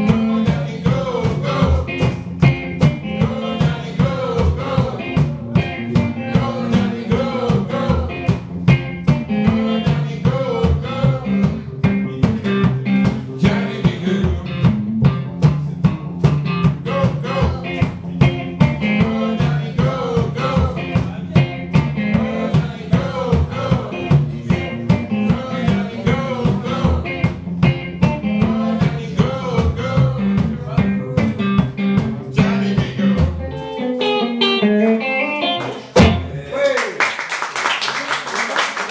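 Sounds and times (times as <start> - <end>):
washtub bass thumping: 0.0 - 33.4, 36.0 - 36.3
electric guitar blues: 0.0 - 36.5.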